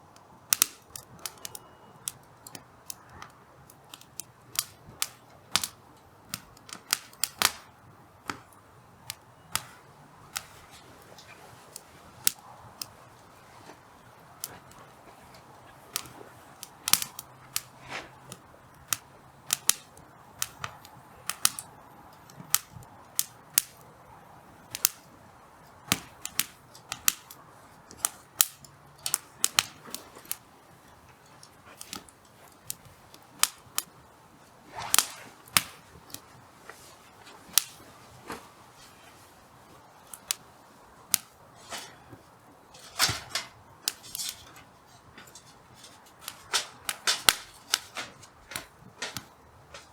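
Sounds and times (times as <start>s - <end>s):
campfire crackling and popping: 0.0s - 49.9s
faint fire hiss: 0.0s - 49.9s.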